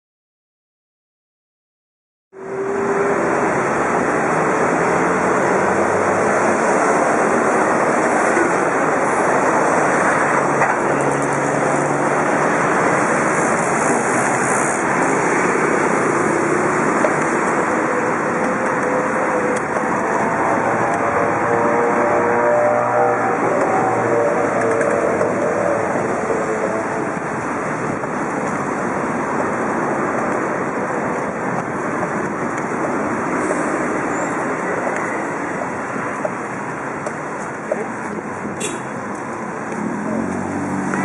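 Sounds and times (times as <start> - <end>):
road traffic: 2.3 - 41.0.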